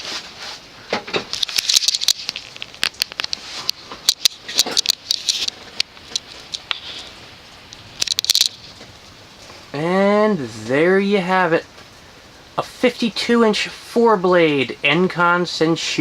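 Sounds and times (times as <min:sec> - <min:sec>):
rustling and crackling: 0:00.0 - 0:13.5.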